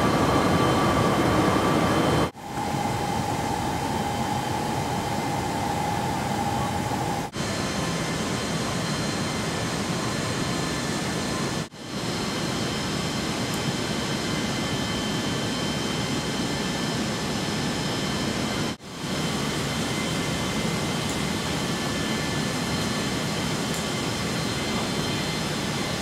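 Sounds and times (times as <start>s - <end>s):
faint high whine: 0.0s - 26.0s
jet engines droning: 0.0s - 26.0s.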